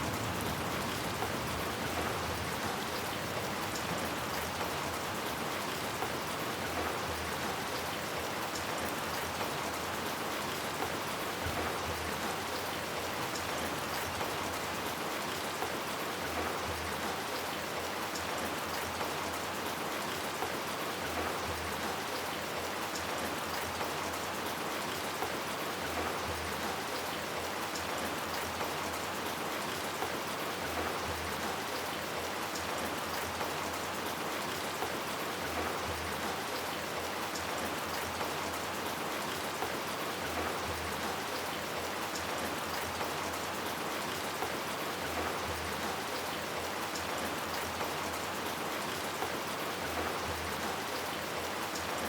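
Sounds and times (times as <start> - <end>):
rain on hard surfaces: 0.0 - 52.0.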